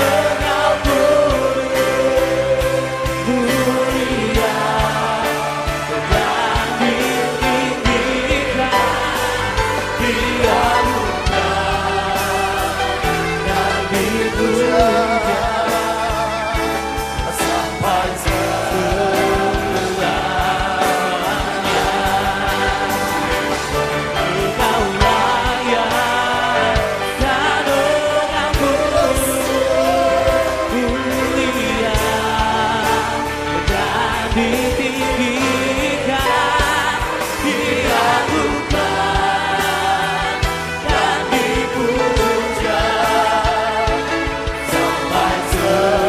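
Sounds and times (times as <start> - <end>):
band with bass and drums: 0.0 - 46.0
choir singing: 0.0 - 46.0.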